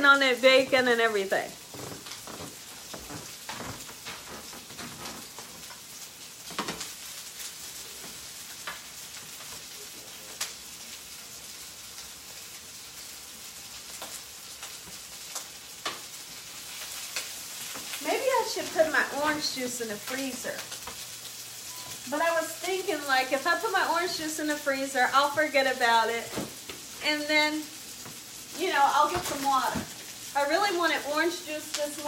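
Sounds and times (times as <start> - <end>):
sausages sizzling in skillet: 0.0 - 32.0.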